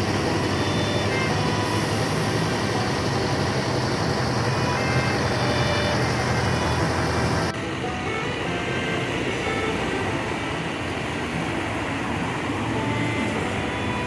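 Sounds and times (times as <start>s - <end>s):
bus engine hum: 0.0s - 14.0s
traffic hiss: 0.0s - 14.0s.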